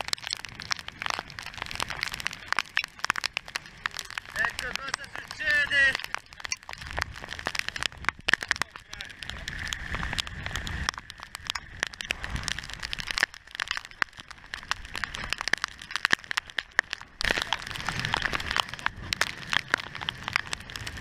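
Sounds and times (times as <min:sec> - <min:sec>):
rain and spray striking housing: 0:00.0 - 0:21.0.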